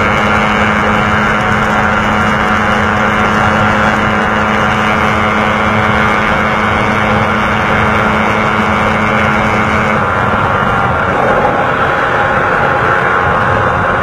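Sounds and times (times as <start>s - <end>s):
motorcycle engine at high revs: 0.0s - 14.0s
second motorcycle ahead: 0.0s - 14.0s
wind rushing over microphone: 0.0s - 14.0s.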